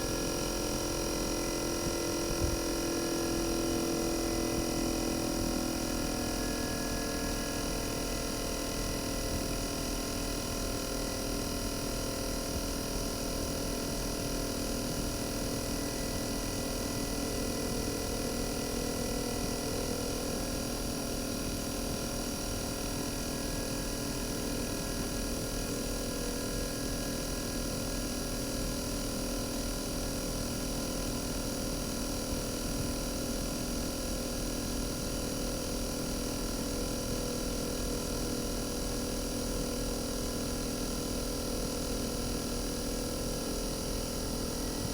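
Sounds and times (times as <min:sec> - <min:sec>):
air conditioner compressor running: 0:00.0 - 0:44.9.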